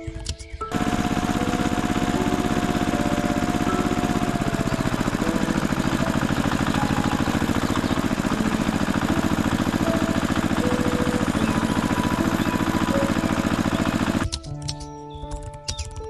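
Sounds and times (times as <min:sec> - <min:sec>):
tractor engine idling: 0:00.7 - 0:14.2.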